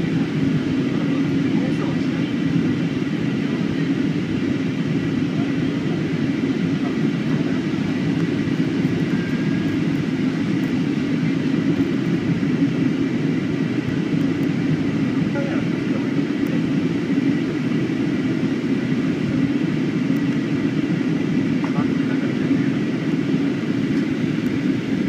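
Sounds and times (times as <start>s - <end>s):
airliner cabin noise: 0.0s - 25.0s.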